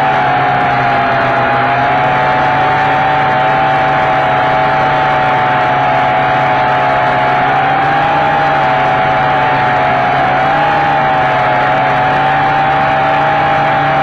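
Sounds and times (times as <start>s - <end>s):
quadcopter propellers whirring: 0.0s - 14.0s.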